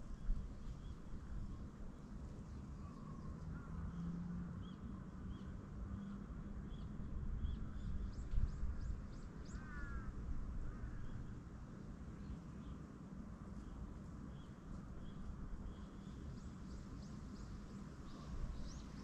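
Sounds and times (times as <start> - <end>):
city hum: 0.0 - 19.0.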